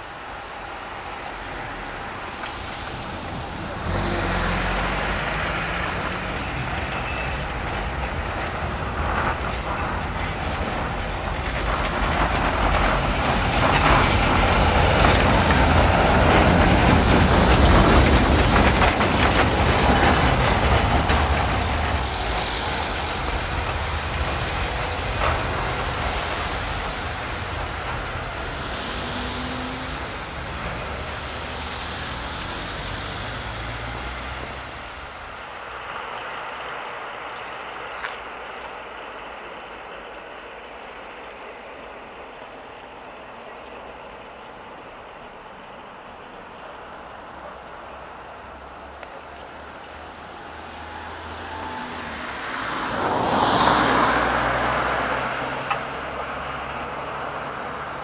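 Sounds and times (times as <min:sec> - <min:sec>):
tram passing with high whine: 0:00.0 - 0:58.0.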